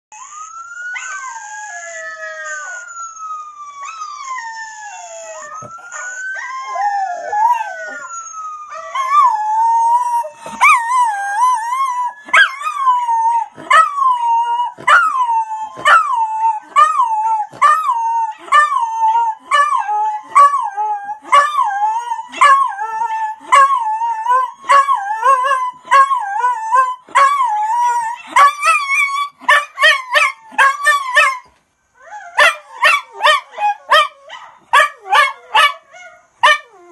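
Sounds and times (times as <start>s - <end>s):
dog howling and yowling: 0.2s - 36.9s.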